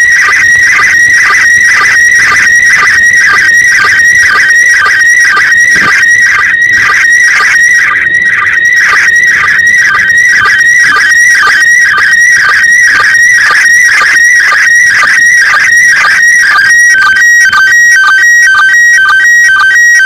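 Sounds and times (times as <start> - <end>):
warbling radio data tone: 0.0 - 20.0.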